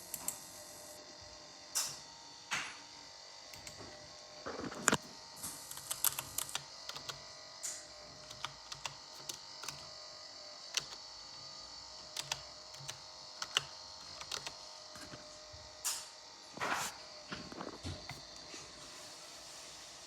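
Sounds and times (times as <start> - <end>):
computer fan whining: 0.0 - 20.0.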